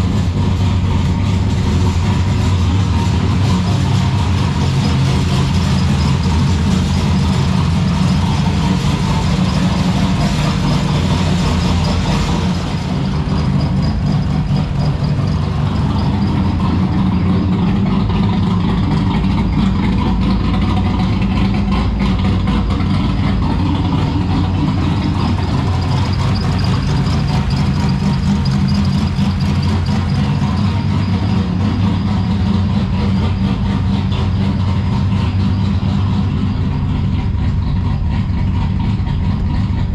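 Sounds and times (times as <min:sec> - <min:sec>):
car engine idling lumpily: 0:00.0 - 0:39.9
engine hiss: 0:00.0 - 0:39.9
loose exhaust part rattling: 0:00.0 - 0:39.9.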